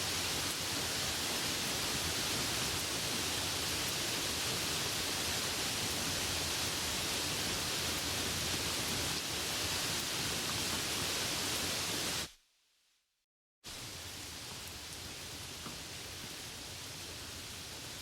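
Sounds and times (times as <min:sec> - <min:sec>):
steady rain: 0:00.0 - 0:12.3, 0:13.7 - 0:18.0.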